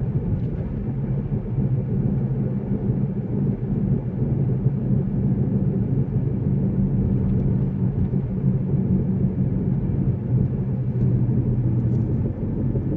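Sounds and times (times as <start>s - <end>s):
car road and drivetrain rumble: 0.0s - 12.9s.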